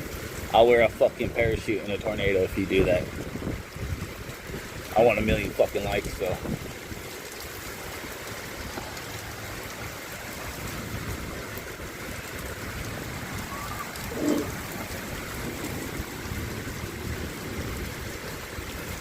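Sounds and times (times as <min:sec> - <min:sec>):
hail falling: 0:00.0 - 0:19.0
rain pattering: 0:00.0 - 0:19.0.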